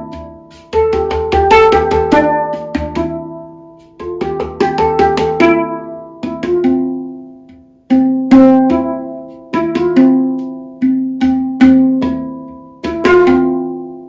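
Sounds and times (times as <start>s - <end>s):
handpan ringing steel notes: 0.0s - 14.0s.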